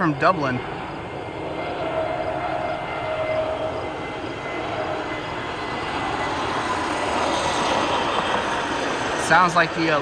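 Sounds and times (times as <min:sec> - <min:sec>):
airliner jet engines droning: 0:00.0 - 0:10.0.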